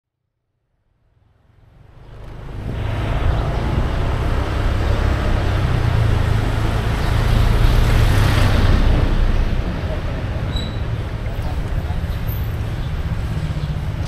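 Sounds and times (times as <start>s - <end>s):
road traffic with low engine rumble: 0.8s - 14.0s.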